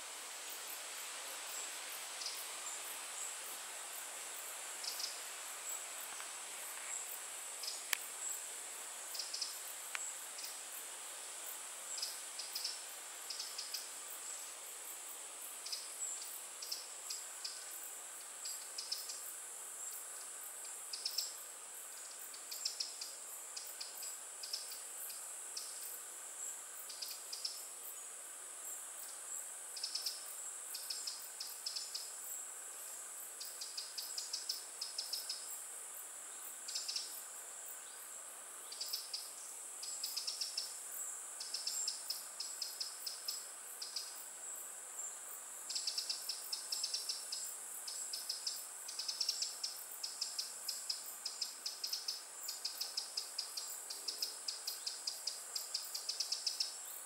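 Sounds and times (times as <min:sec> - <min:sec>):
insects buzzing high-pitched: 0:00.0 - 0:57.0
insect pulsing chirps: 0:00.4 - 0:10.8, 0:11.8 - 0:28.1, 0:29.0 - 0:57.0.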